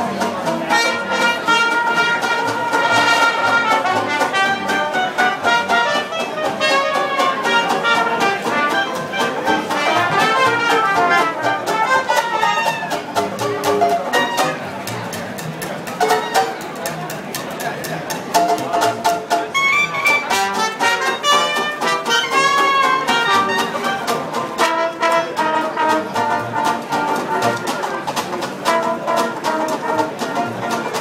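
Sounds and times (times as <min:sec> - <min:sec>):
walking upright bass: 0:00.0 - 0:31.0
trumpet: 0:00.6 - 0:14.8, 0:16.0 - 0:16.6, 0:19.5 - 0:31.0.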